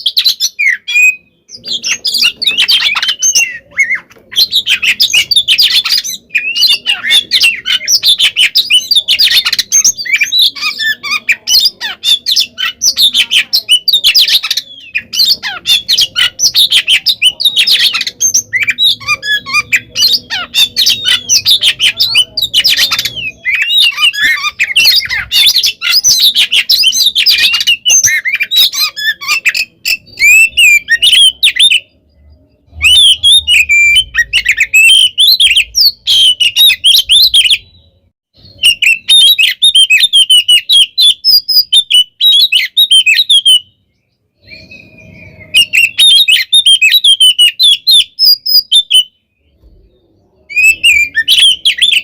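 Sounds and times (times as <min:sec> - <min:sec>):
magpie-robin singing: 0:00.0 - 0:52.0.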